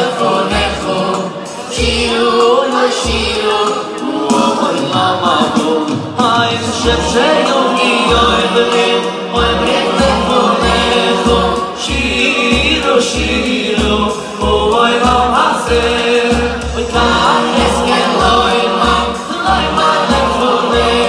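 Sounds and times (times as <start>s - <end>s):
choir of men and boys singing: 0.0s - 21.0s
lead singer: 0.0s - 21.0s
live band with bass beat: 0.0s - 21.0s.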